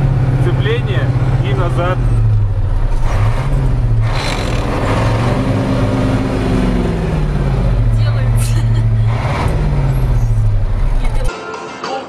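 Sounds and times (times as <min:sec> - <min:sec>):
truck engine running: 0:00.0 - 0:11.3.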